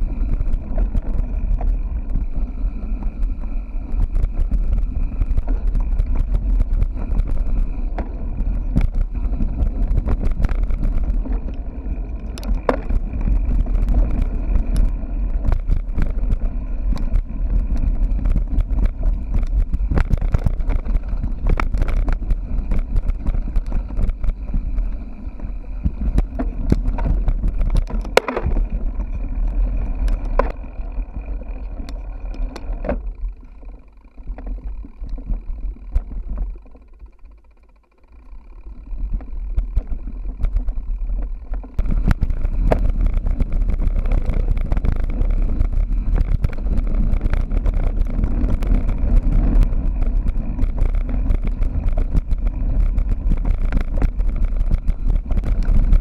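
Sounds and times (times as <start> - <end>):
wind rumble on microphone: 0.0 - 37.0, 38.7 - 56.0
bike rattling and knocking: 0.0 - 56.0.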